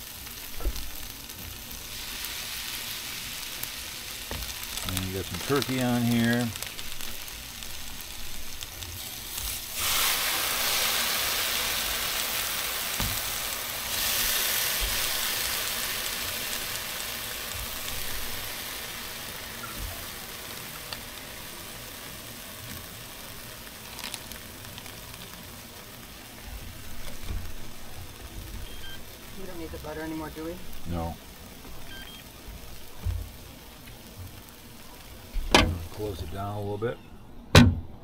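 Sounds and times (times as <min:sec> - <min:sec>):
food sizzling on a griddle: 0:00.0 - 0:37.1.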